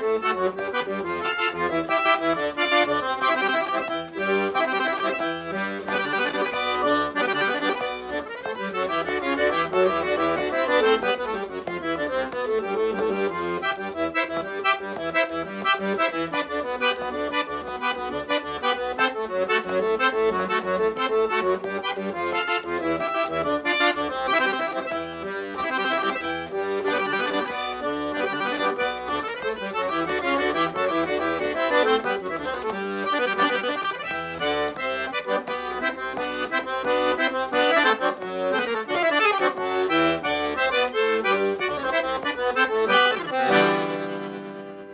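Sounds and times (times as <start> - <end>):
accordion playing a tune: 0.0 - 44.9.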